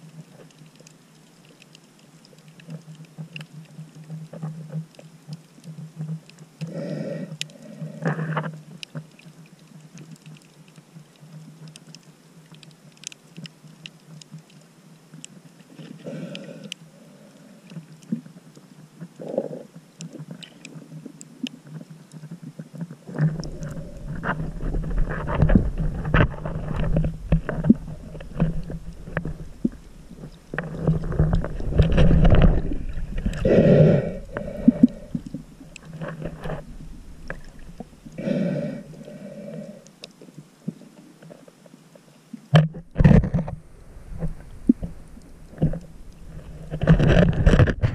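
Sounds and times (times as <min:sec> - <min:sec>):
muffled underwater water movement: 0:00.0 - 0:47.9.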